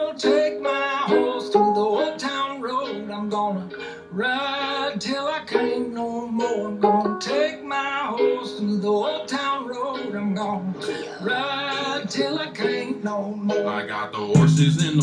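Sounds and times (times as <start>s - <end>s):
person singing with strummed strings: 0.0s - 15.0s.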